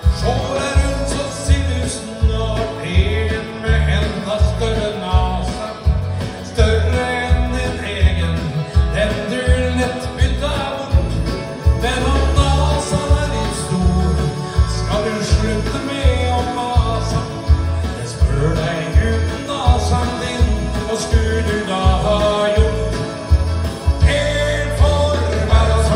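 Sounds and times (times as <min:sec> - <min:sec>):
man singing into a microphone: 0:00.0 - 0:25.9
recorded music with bass beat: 0:00.0 - 0:25.9.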